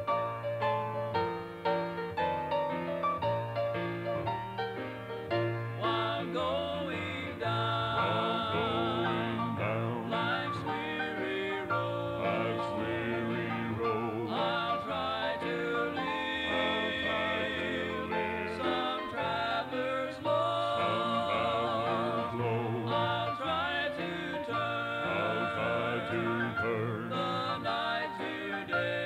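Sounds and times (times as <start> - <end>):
instrumental backing: 0.0 - 29.0
vocal group singing a hymn: 5.7 - 29.0.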